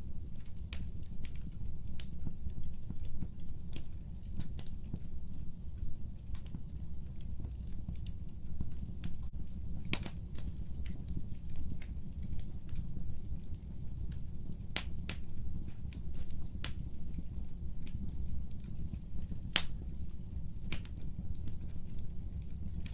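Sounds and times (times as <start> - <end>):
fire crackles and pops: 0.0 - 22.9
fire rumbling: 0.0 - 22.9.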